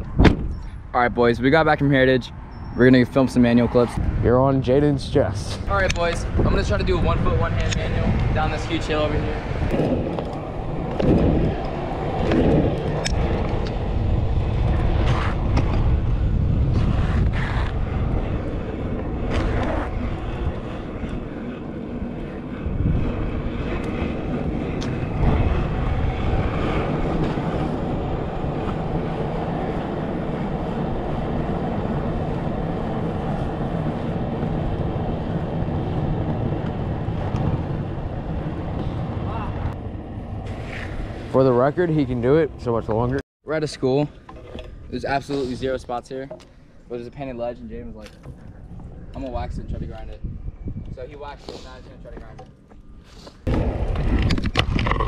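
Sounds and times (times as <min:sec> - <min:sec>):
scooter wheels rolling on asphalt: 0:00.6 - 0:55.0.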